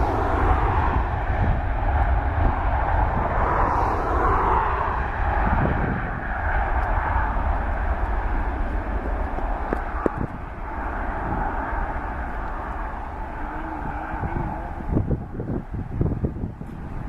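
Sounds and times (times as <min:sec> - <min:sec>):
jet engines roaring: 0:00.0 - 0:17.0
wind buffeting microphone: 0:00.0 - 0:17.0.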